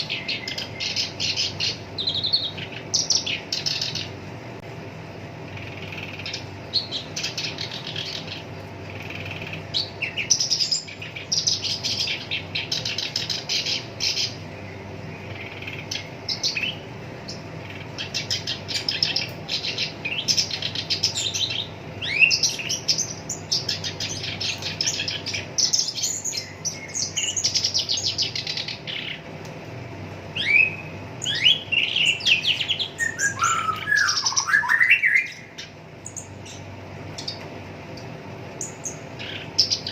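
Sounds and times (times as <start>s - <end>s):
bird harsh chattering song: 0.0s - 4.2s, 5.4s - 29.3s, 30.3s - 37.5s, 38.6s - 39.9s.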